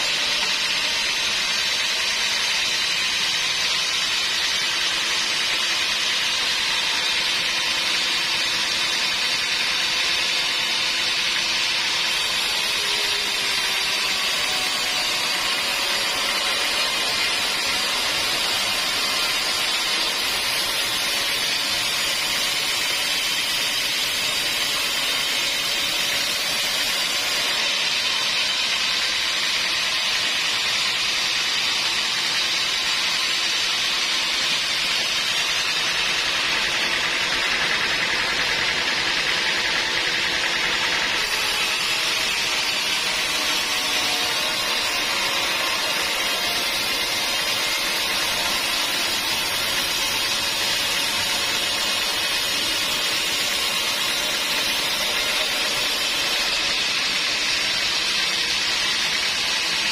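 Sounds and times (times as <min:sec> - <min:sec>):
saw blade cutting log: 0:00.0 - 0:59.9.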